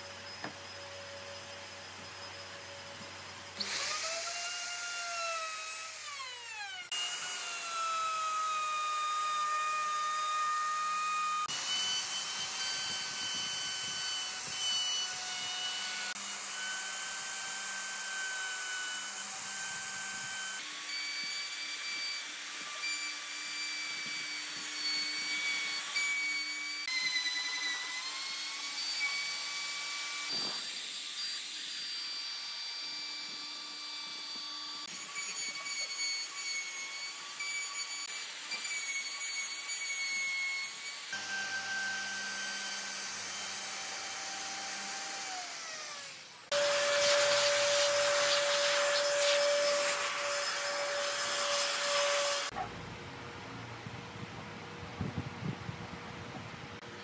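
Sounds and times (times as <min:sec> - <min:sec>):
router bit rasping wood: 0:00.0 - 0:52.7
router motor whine: 0:00.0 - 0:52.7.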